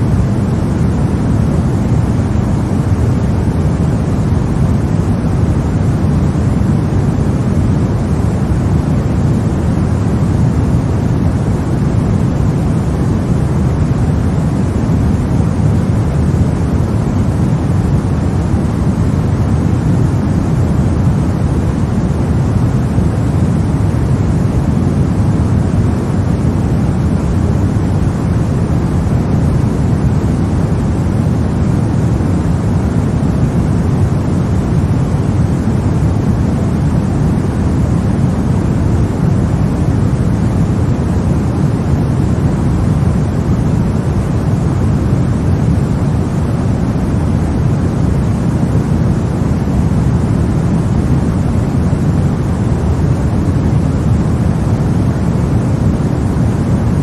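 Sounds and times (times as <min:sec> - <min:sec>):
deep white noise hiss: 0:00.0 - 0:57.0.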